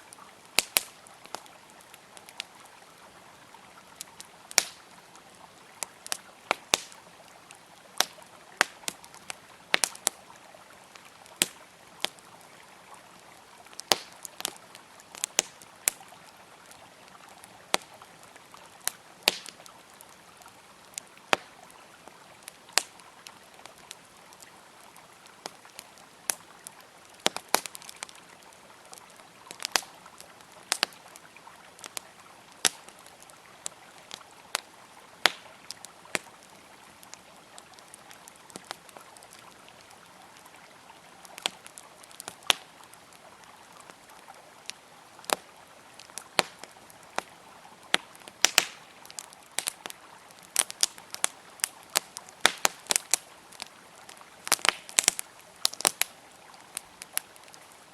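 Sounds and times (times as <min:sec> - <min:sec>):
campfire crackling: 0:00.0 - 0:57.9
flowing river water: 0:00.0 - 0:57.9.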